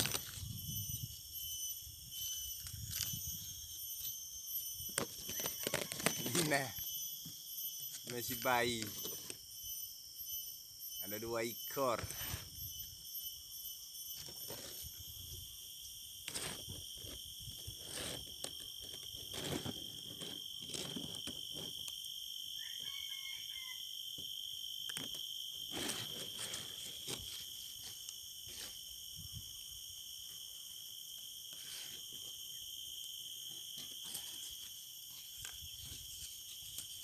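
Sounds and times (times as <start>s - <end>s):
insect chorus drone: 0.0s - 37.0s.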